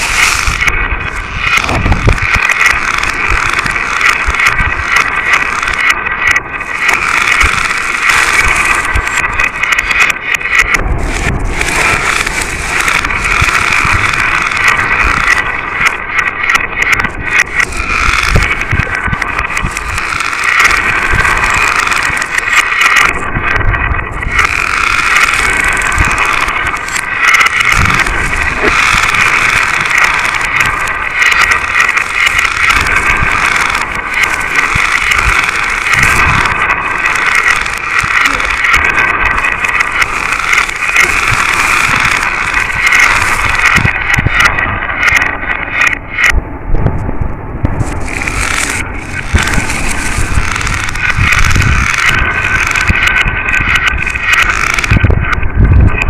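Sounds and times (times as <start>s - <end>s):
marbles rattling along tracks: 0.0s - 46.3s, 47.8s - 56.0s.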